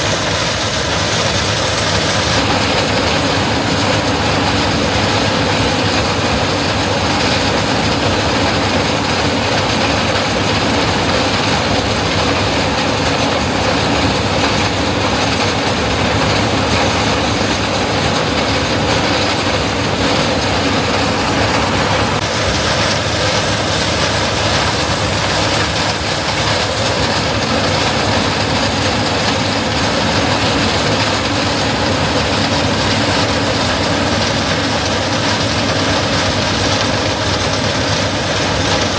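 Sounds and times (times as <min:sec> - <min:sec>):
combine harvester clattering: 0:00.0 - 0:38.9.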